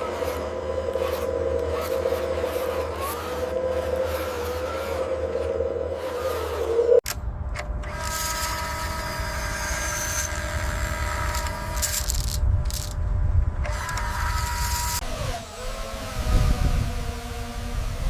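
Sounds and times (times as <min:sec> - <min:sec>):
steady machinery whine: 0:00.0 - 0:18.0.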